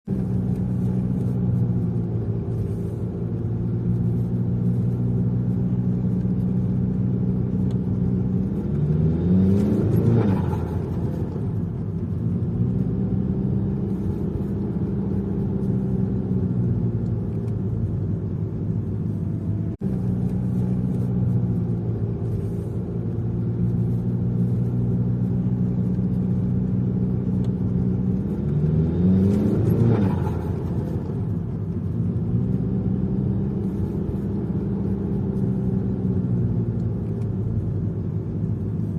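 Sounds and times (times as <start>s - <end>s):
turbocharged engine idling and revving: 0.0s - 38.9s.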